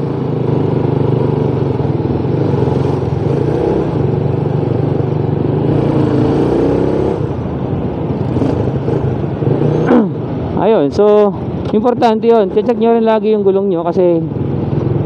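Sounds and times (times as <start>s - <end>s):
motorcycle engine running: 0.0s - 10.6s, 11.4s - 15.0s
wind and road noise: 0.0s - 15.0s.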